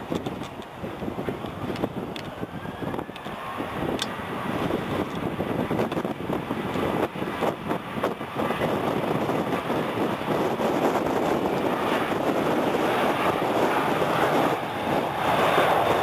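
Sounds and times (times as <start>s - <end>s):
jet engines spooling up: 0.0s - 16.0s.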